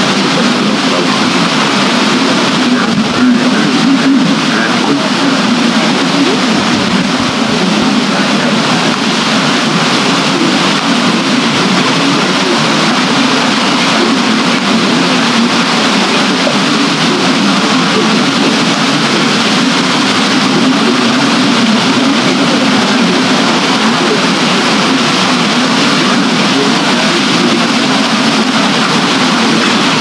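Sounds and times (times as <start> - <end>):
water wheel and river rushing: 0.0 - 30.0.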